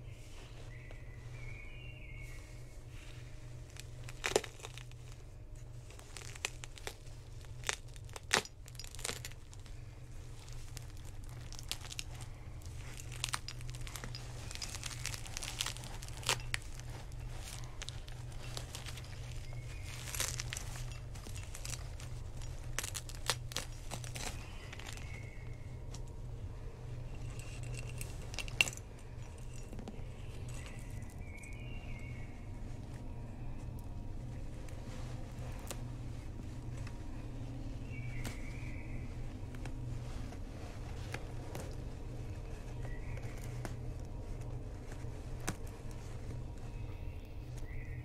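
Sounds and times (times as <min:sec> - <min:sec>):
hands rustling and crinkling: 0:00.0 - 0:48.0
steady low hum: 0:00.0 - 0:48.0.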